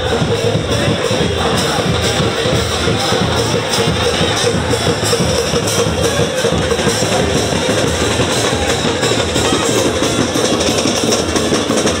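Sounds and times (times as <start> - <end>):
bass drum band playing: 0.0 - 12.0.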